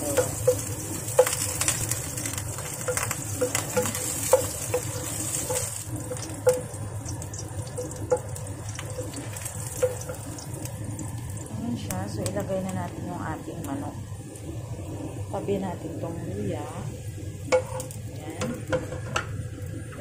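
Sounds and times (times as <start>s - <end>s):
ginger sizzling in hot oil: 0.0s - 20.0s.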